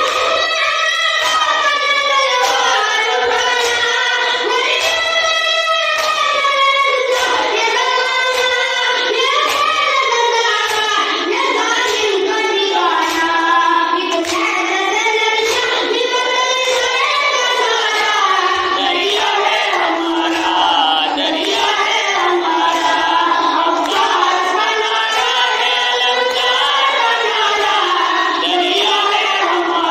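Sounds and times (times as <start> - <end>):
boy chanting a lament: 0.0 - 29.9.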